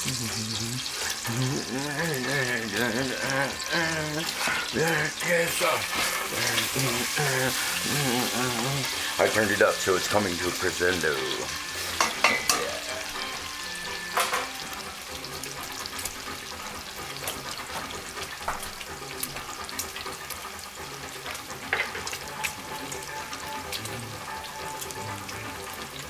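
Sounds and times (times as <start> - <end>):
bacon sizzling in a pot: 0.0 - 26.0.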